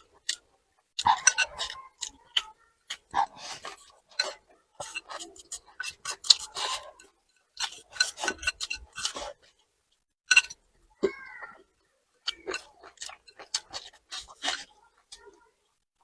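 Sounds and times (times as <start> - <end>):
chewing and crunching: 0.0 - 9.7, 10.3 - 15.6.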